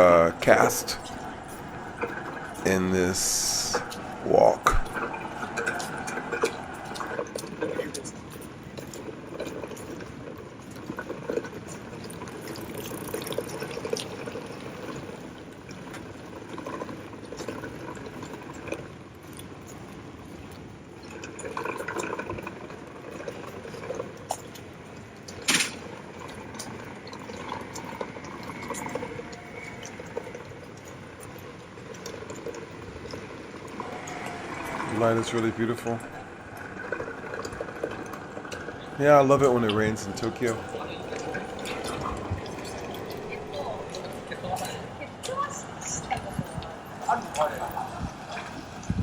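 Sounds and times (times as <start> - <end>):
rain on a wet street: 0.0 - 49.0.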